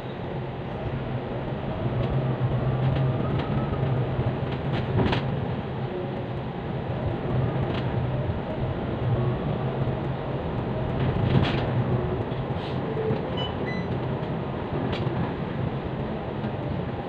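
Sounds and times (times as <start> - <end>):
bus engine drone inside cabin: 0.0 - 17.0.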